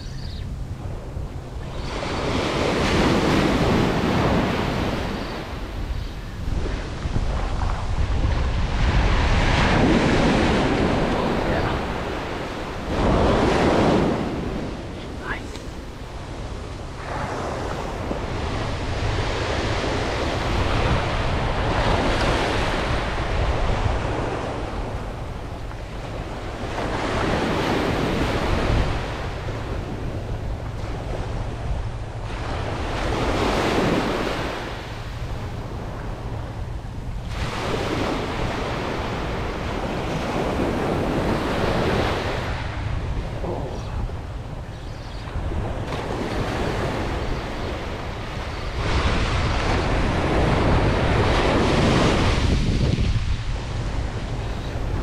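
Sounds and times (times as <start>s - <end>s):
wind rumble on microphone: 0.0s - 55.0s
waves washing up a beach: 0.8s - 55.0s.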